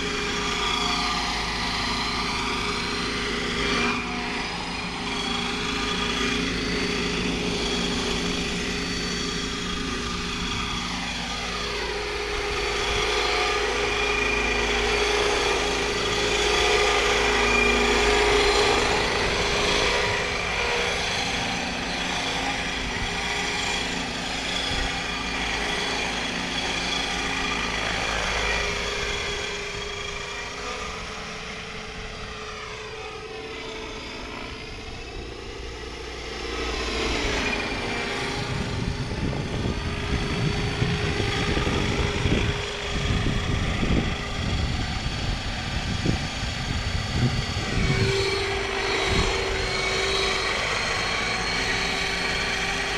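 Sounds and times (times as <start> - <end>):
model helicopter whine: 0.0 - 52.9.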